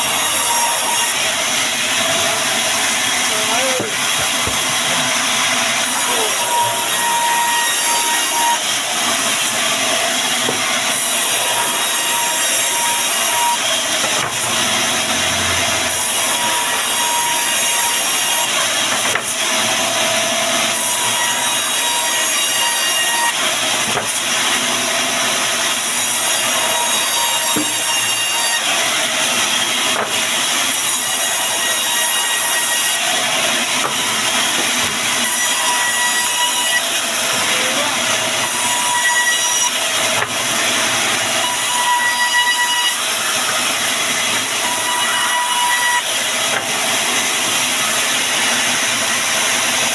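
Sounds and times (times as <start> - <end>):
band saw cutting timber: 0.0 - 49.9.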